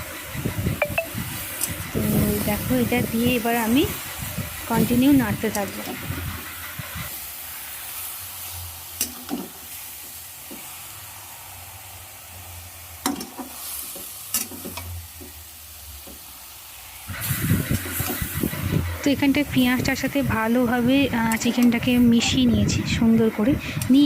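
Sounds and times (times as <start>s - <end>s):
chicken and onions sizzling in pan: 1.1s - 24.0s.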